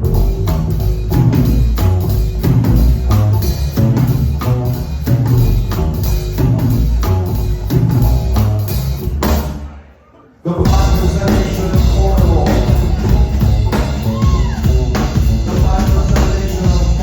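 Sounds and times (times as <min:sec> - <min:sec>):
deep bass line: 0:00.0 - 0:09.7, 0:10.6 - 0:17.0
drum kit beat: 0:00.0 - 0:09.8, 0:10.6 - 0:17.0.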